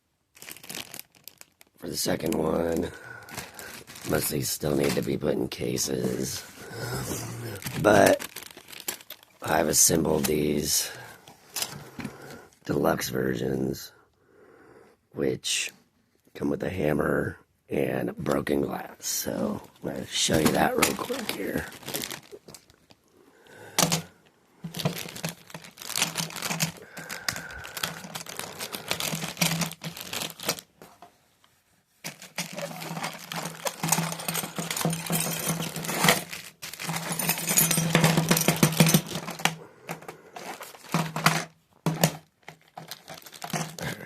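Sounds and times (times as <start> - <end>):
packaging crinkling and rustling: 0.3 - 12.4, 19.2 - 23.1, 23.8 - 44.0.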